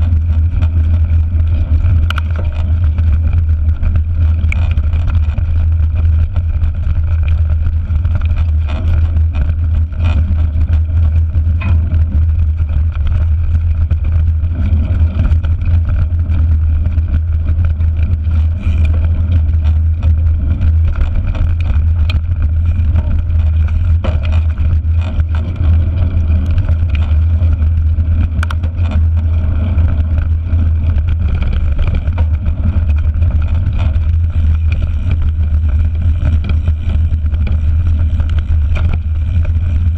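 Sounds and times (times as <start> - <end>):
bike knocks and rattles: 0.0 - 39.9
bike tyres rolling on dirt: 0.0 - 39.9
wind rumble: 0.0 - 39.9.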